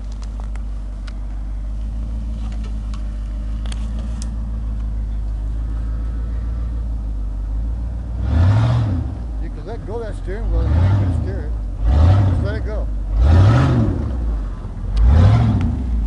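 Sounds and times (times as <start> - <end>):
truck engine low drone: 0.0 - 16.0.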